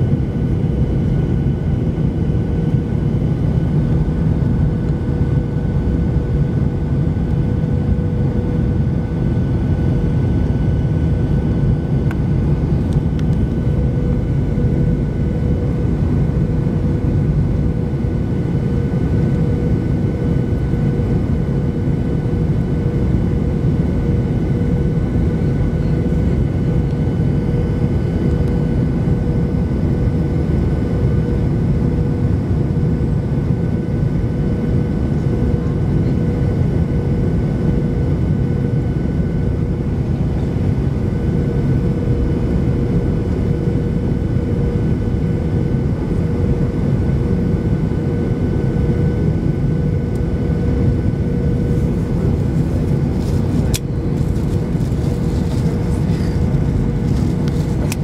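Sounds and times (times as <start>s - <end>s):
jet engine hum and airflow: 0.0s - 58.0s.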